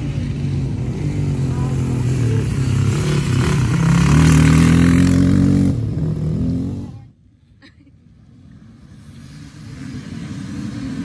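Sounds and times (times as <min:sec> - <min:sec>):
dirt bike engine passing: 0:00.0 - 0:07.1, 0:08.2 - 0:11.0
distant bike engines: 0:00.0 - 0:11.0.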